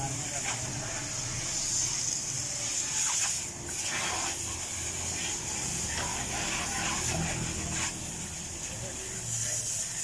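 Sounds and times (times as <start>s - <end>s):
pressure washer spraying water: 0.0s - 10.0s.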